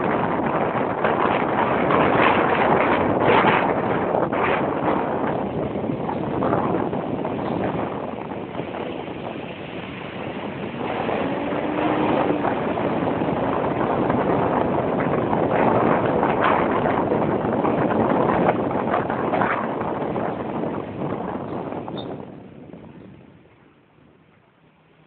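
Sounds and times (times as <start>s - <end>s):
wind on microphone: 0.0s - 24.3s
tram rumbling on tracks: 0.0s - 24.5s.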